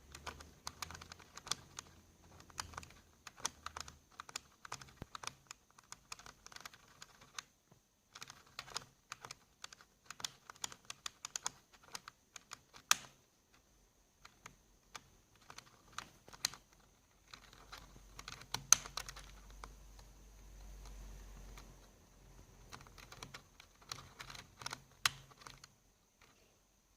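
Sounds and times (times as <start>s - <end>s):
keyboard keys clicking and rattling: 0.0s - 7.4s, 8.1s - 13.0s, 14.2s - 19.8s, 21.5s - 26.4s.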